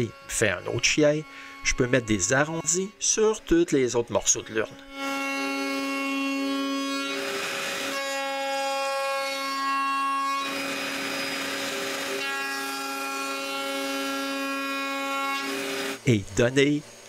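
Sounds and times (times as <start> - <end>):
router bit cutting wood: 0.0 - 17.0
router whining: 0.0 - 17.0.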